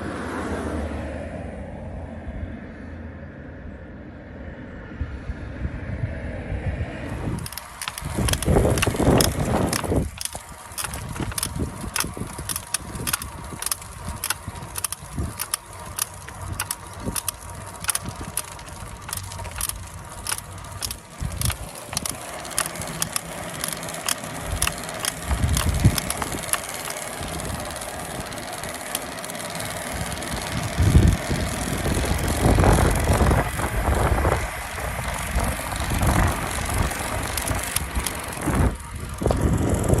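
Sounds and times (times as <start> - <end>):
road noise: 0.0 - 40.0
rushing wind: 0.0 - 40.0
bicycle crank creaking and clicking: 7.1 - 40.0.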